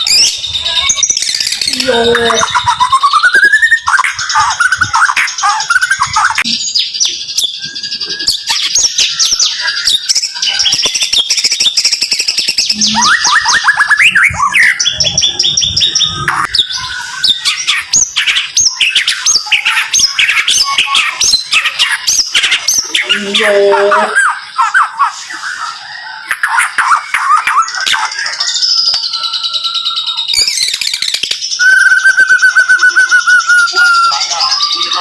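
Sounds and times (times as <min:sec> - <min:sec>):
bird whistling lower phrases: 0:00.0 - 0:06.6, 0:12.7 - 0:23.3, 0:24.0 - 0:35.0
songbird singing rapid high notes: 0:00.0 - 0:29.1.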